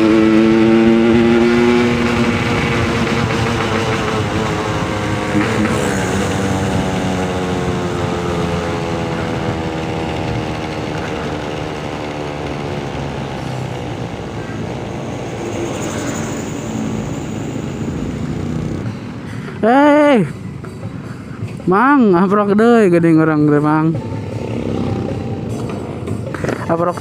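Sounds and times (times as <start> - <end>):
motorcycle engine running: 0.0 - 27.0
rushing road noise: 0.0 - 27.0.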